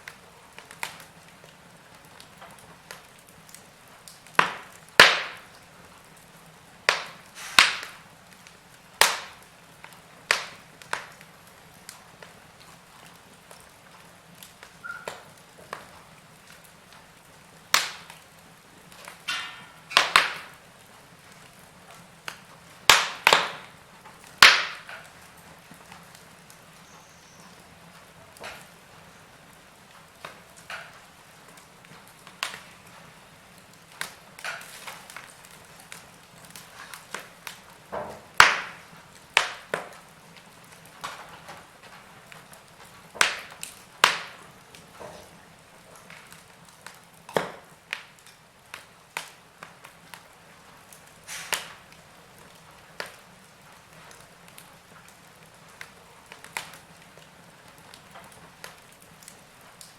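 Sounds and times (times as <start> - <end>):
faint steady hiss: 0.0 - 59.9
log fire crackling: 0.0 - 59.9.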